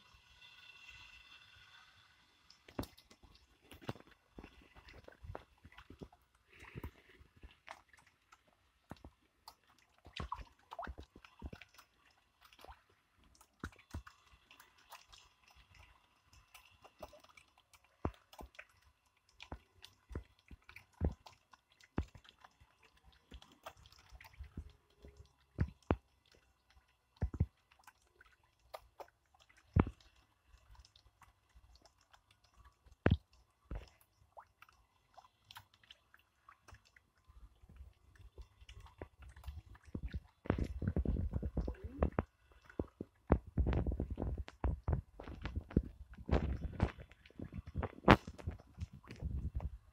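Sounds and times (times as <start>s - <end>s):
fish smacking and slurping at surface: 2.5s - 49.9s.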